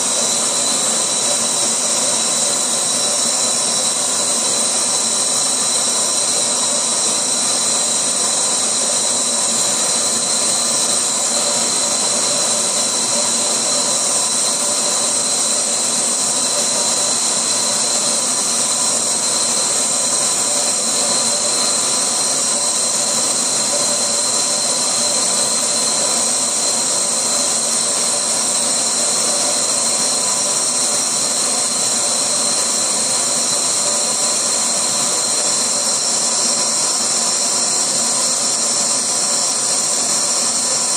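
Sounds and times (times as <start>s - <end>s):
laser engraver hissing and whining: 0.0s - 40.9s.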